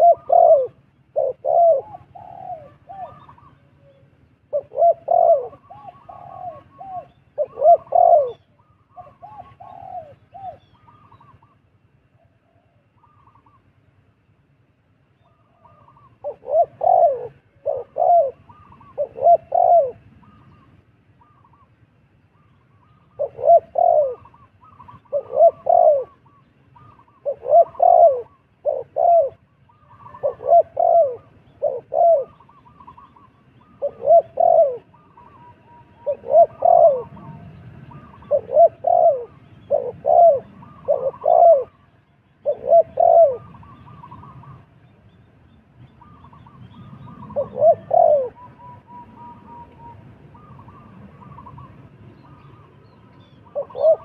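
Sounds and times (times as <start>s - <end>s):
dove cooing: 0.0s - 13.8s, 15.2s - 21.8s, 22.4s - 44.8s, 45.9s - 54.0s
small birds chirping: 0.0s - 14.4s, 15.1s - 54.0s.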